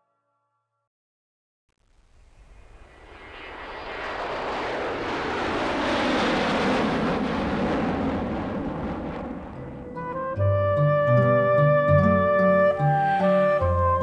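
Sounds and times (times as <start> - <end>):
jet airliner flying by: 2.2 - 14.0.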